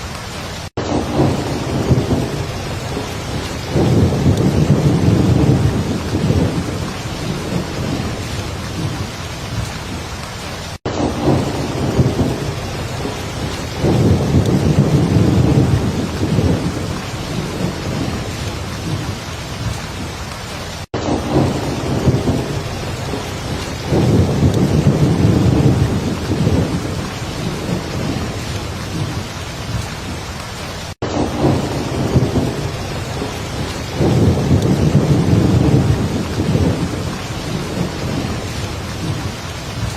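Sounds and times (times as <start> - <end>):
heavy rain falling: 0.0 - 39.9
low thunder rumbling: 0.4 - 30.4, 31.0 - 39.9.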